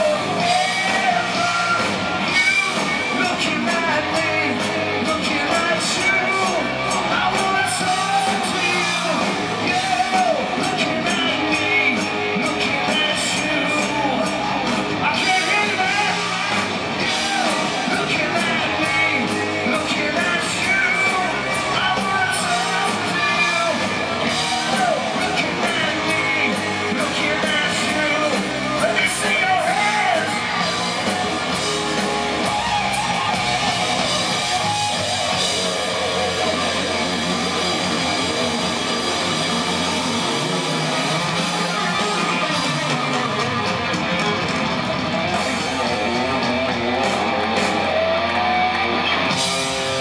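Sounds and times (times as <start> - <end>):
live heavy metal band: 0.0 - 50.0.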